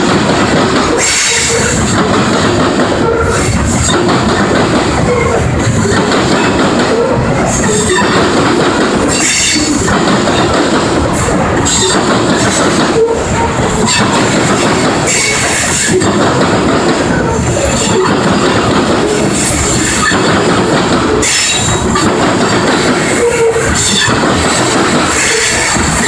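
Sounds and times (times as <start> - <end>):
steel wheels clacking on rails: 0.0 - 26.0.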